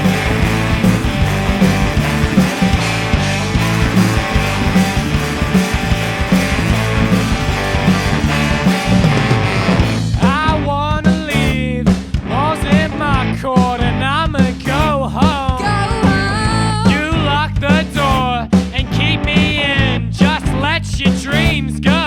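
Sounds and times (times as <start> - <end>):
sliding lead melody line: 0.0 - 11.7, 12.3 - 20.7
rock band playing live: 0.0 - 22.0.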